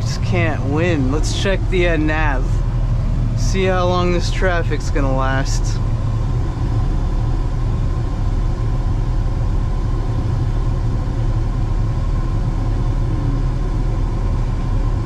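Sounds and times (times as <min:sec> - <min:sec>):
pickup engine rumble: 0:00.0 - 0:15.0
road noise inside cab: 0:00.0 - 0:15.0.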